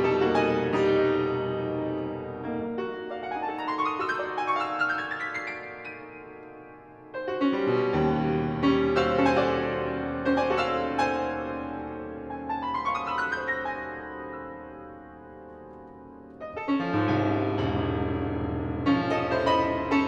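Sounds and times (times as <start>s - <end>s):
grand piano playing: 0.0s - 20.0s.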